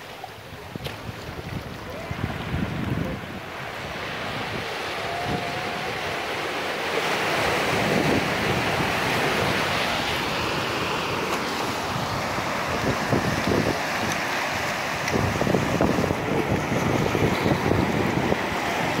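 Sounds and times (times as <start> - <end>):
wind buffeting microphone: 0.4 - 19.0
surf breaking on rocks: 0.6 - 19.0.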